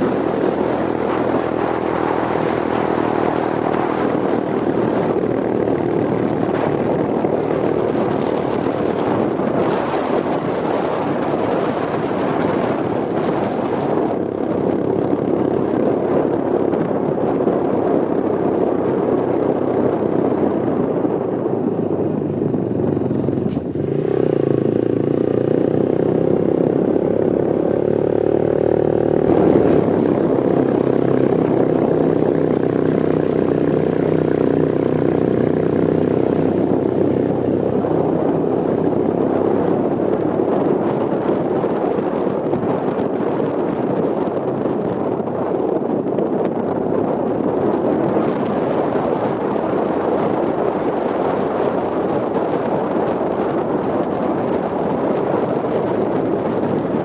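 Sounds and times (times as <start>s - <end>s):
motorbike engine running: 0.0s - 57.0s
wind noise on microphone: 0.0s - 57.0s.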